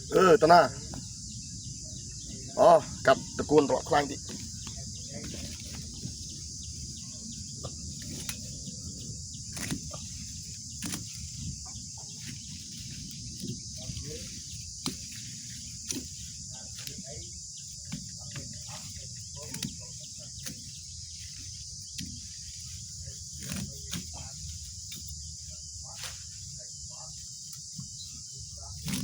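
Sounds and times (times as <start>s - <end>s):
insect chirring: 0.0s - 29.0s.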